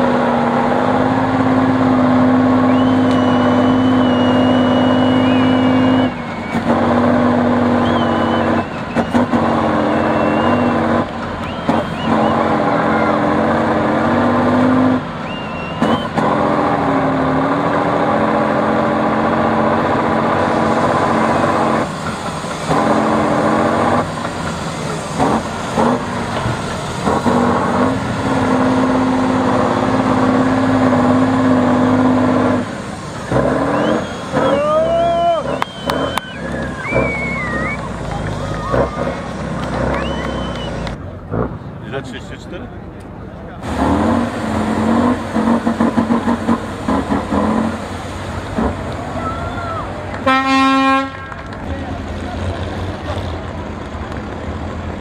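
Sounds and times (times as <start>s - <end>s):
diesel truck engine revving hard: 0.0s - 42.7s, 43.5s - 55.0s.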